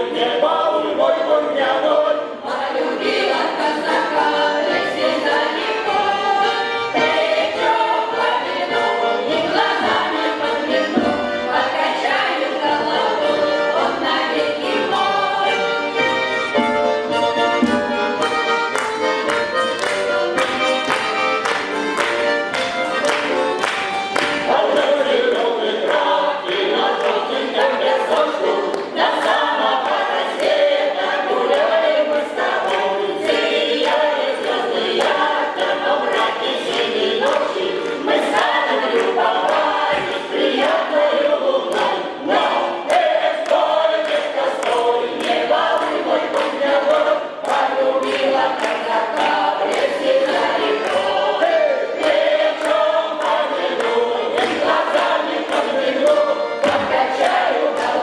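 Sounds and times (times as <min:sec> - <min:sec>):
choir singing folk song: 0:00.0 - 0:58.0.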